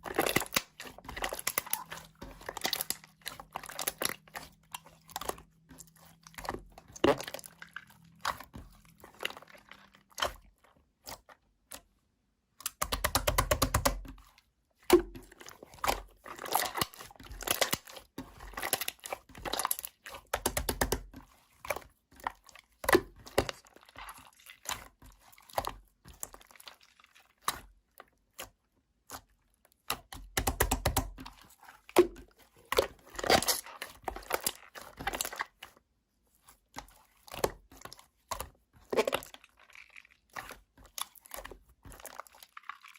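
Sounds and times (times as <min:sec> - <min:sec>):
slime squelching: 0:00.0 - 0:42.9.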